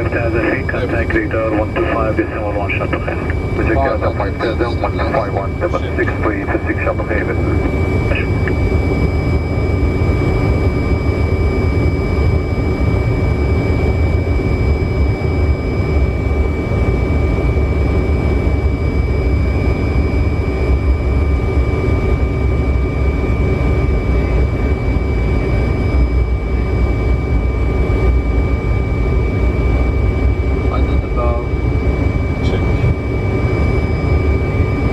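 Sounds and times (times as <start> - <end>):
airflow and engine rumble: 0.0 - 34.9
high-pitched whine: 0.0 - 34.9.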